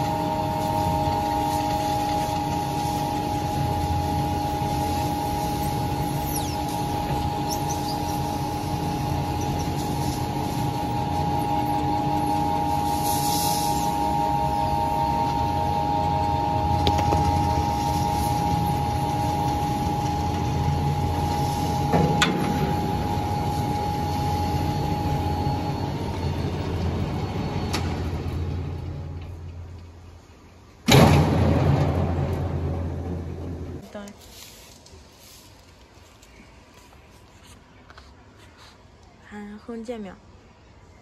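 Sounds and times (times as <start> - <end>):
machine whining tone: 0.0 - 33.8
briquette machine humming: 0.0 - 34.0.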